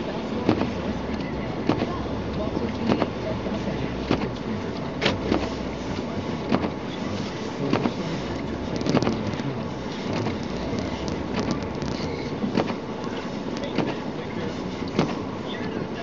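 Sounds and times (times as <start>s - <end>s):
road and engine rumble: 0.0s - 16.0s
windshield wipers knocking: 0.1s - 16.0s.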